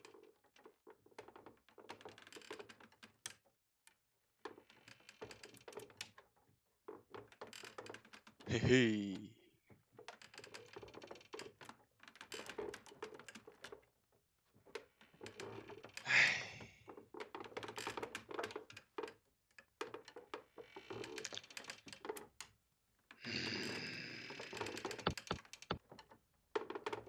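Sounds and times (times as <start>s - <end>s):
rapid irregular clicking and tapping: 0.0s - 8.5s, 9.7s - 16.0s, 16.9s - 27.0s.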